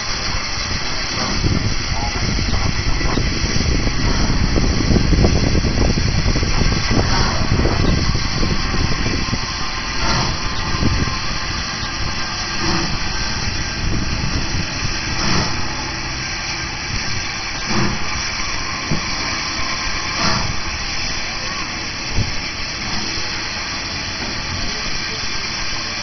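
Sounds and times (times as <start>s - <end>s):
steam locomotive exhaust chuffs: 0.0s - 26.0s.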